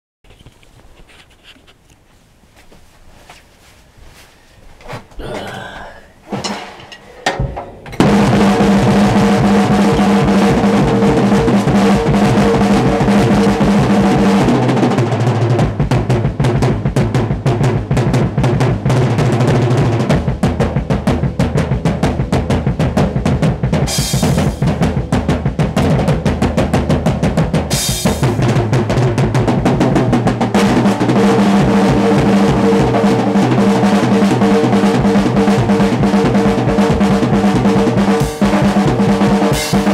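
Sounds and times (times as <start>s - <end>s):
drum kit solo: 6.3s - 39.9s.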